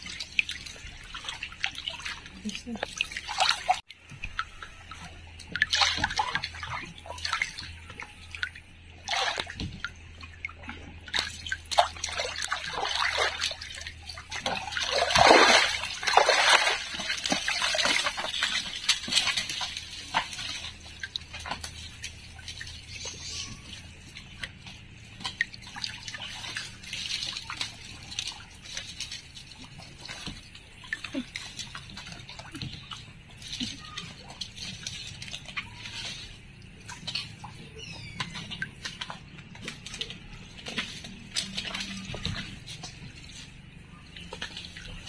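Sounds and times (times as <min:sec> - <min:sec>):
water sloshing and splashing: 0:00.0 - 0:45.0.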